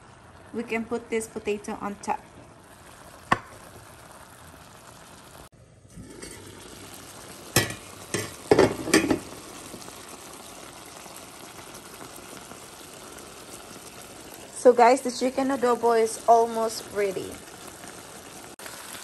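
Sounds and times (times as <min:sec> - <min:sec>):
food simmering in pan: 0:00.0 - 0:19.0.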